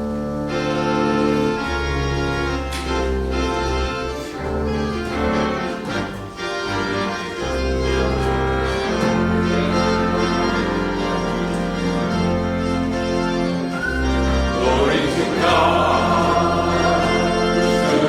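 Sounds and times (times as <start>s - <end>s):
organ playing held chords: 0.0s - 18.0s.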